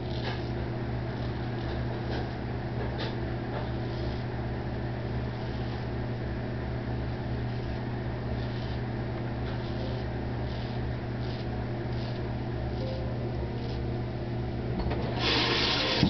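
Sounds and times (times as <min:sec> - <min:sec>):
low mechanical hum: 0:00.0 - 0:16.0
razor scraping stubble: 0:00.0 - 0:16.0.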